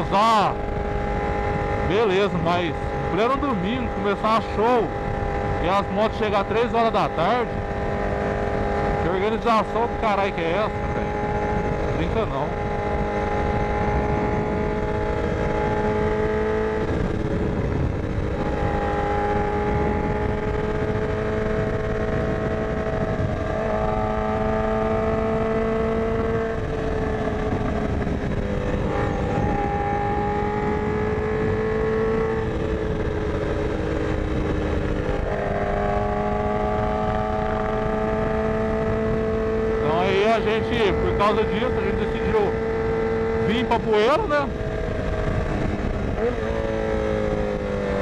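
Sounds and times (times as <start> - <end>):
motorcycle engine running: 0.0 - 48.0
wind noise on microphone: 7.2 - 9.3, 10.0 - 48.0.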